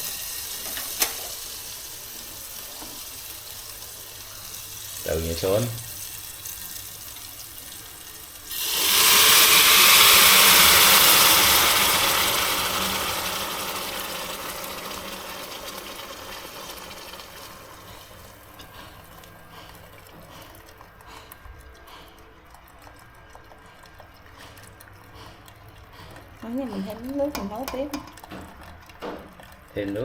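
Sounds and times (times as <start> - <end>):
hot pan sizzling loudly: 0.0 - 20.5, 26.4 - 30.0.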